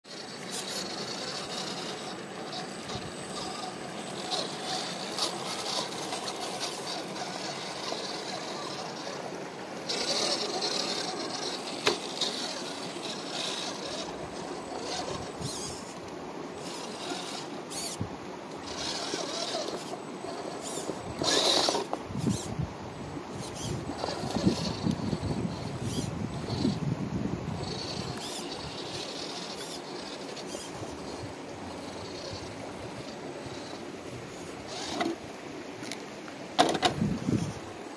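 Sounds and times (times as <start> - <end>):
tyres scraping on rock: 0.0 - 18.0, 18.6 - 22.5, 23.4 - 26.8, 27.5 - 35.2
electric motor and gears whirring: 0.0 - 37.8.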